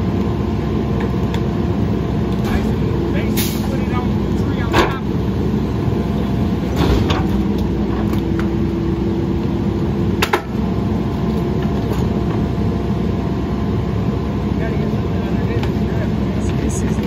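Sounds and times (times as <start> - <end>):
garbage truck running: 0.0 - 17.0
packer whine: 0.0 - 17.0.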